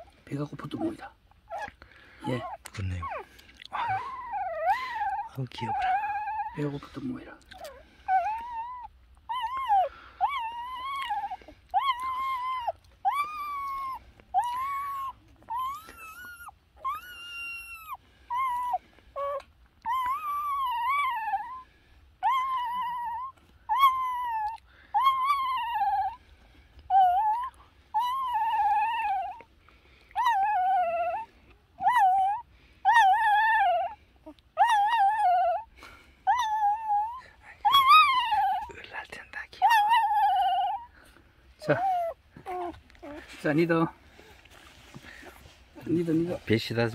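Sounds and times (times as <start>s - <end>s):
puppies whining: 0.0s - 46.9s.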